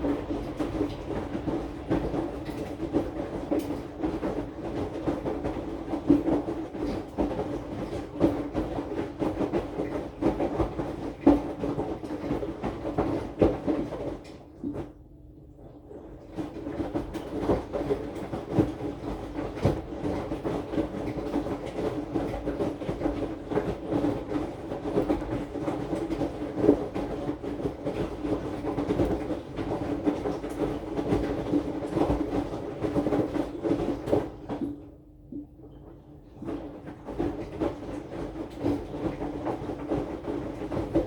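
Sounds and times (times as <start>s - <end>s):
laundry tumbling and knocking: 0.0s - 15.0s, 15.9s - 34.8s, 35.8s - 41.0s
washing machine motor hum: 0.0s - 41.0s.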